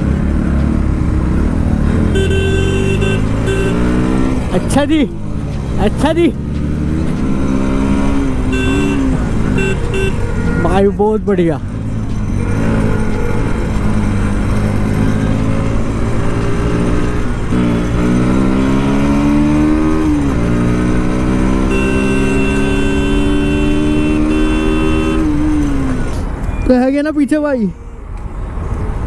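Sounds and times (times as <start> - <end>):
motorcycle engine revving: 0.0 - 26.3
road and wind rumble: 0.0 - 29.0.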